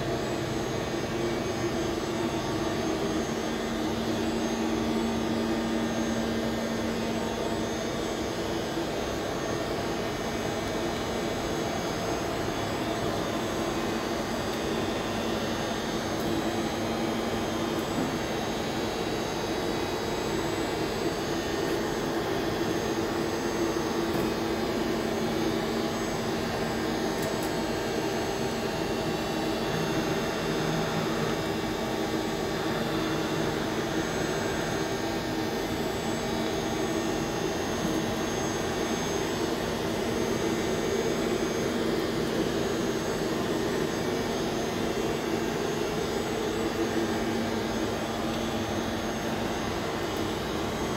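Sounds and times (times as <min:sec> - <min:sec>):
lathe machine hum: 0:00.0 - 0:50.9.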